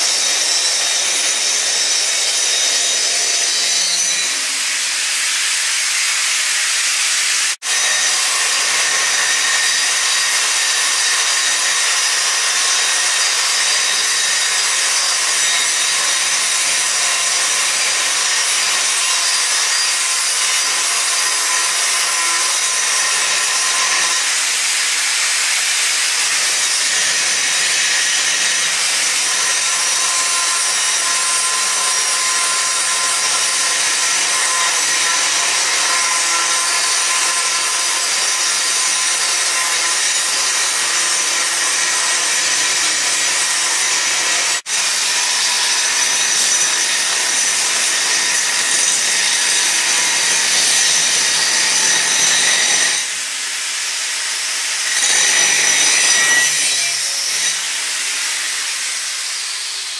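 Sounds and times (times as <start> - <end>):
angle grinder cutting steel: 0.0 - 59.9.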